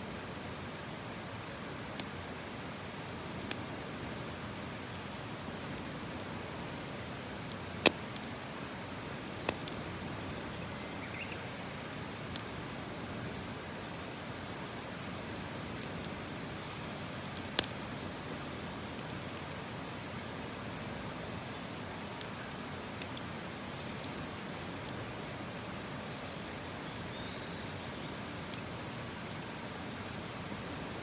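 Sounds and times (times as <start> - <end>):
campfire hissing and crackling: 0.0 - 31.0.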